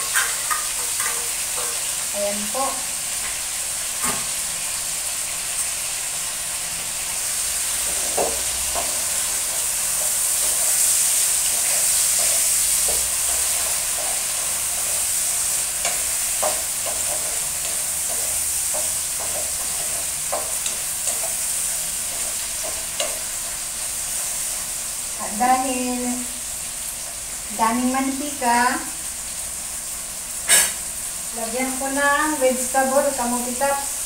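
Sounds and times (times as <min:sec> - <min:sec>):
oil sizzling in a wok: 0:00.0 - 0:34.0.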